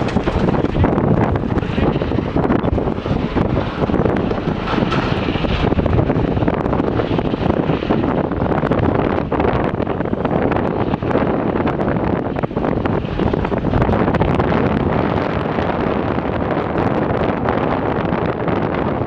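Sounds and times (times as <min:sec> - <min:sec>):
diesel engine running: 0:00.0 - 0:18.3
wind buffeting microphone: 0:00.0 - 0:19.0.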